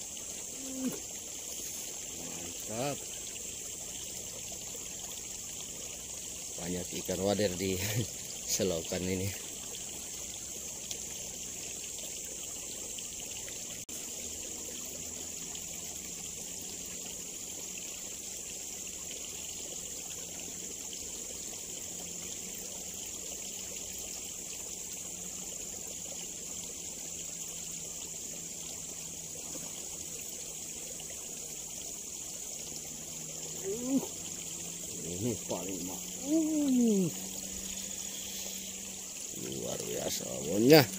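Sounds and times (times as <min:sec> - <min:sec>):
constant high hiss: 0:00.0 - 0:40.9
water trickling: 0:00.0 - 0:40.9.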